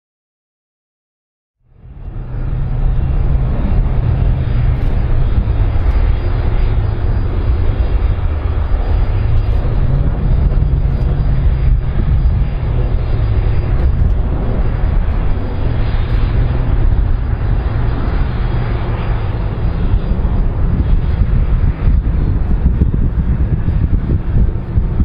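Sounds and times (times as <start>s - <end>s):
jet engines rumbling: 1.6s - 25.0s.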